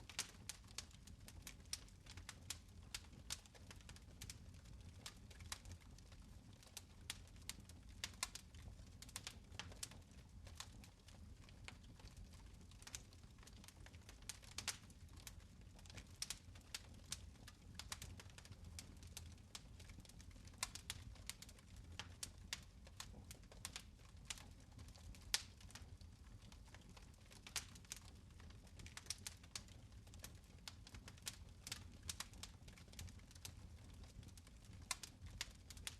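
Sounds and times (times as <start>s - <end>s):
fire crackling and popping: 0.0s - 35.9s
low rumble of flames: 0.0s - 35.9s.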